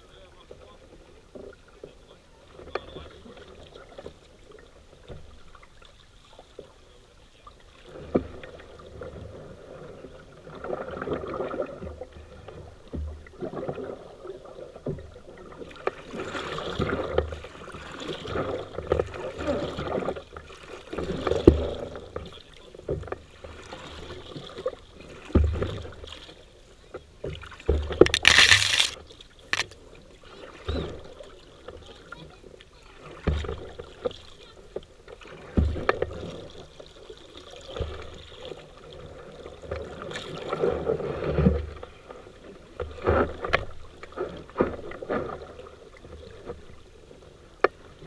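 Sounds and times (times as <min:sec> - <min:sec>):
water splashing and sloshing: 0:00.0 - 0:48.0.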